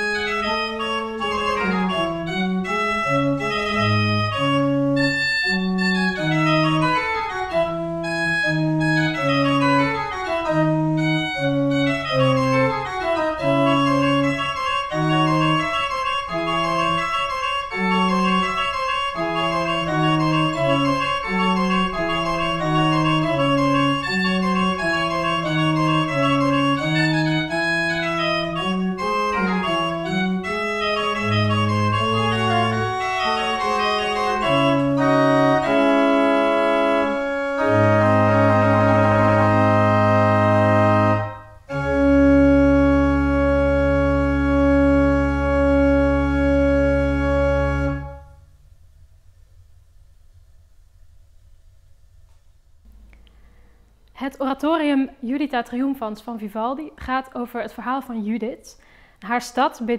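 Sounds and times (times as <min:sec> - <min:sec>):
pipe organ piece: 0:00.0 - 0:48.6.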